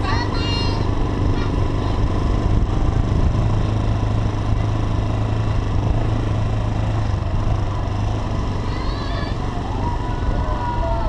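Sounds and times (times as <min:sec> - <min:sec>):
constant rushing noise: 0:00.0 - 0:11.0
motorcycle engine running: 0:00.0 - 0:11.0.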